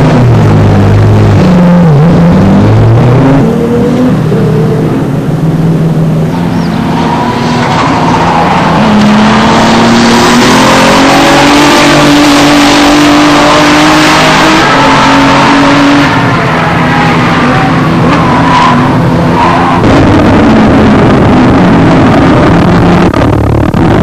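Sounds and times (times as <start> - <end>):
car engine revving hard: 0.0 - 24.0.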